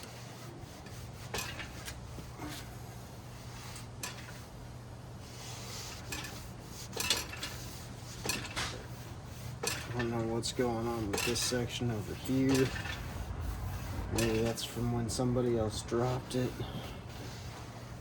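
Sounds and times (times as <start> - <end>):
rag rubbing wheel rim: 0.0 - 4.6, 5.2 - 18.0.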